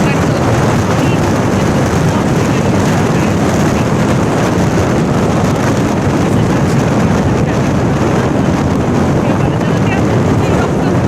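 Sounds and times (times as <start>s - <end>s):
motorcycle engine: 0.0s - 11.0s
road noise: 0.0s - 11.0s
wind noise on microphone: 0.0s - 11.0s.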